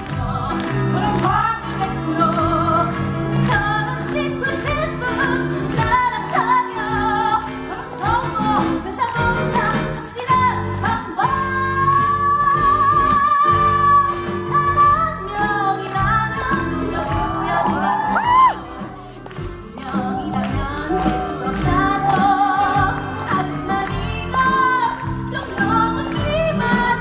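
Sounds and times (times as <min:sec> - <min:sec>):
loud backing music: 0:00.0 - 0:27.0
woman singing: 0:00.0 - 0:27.0.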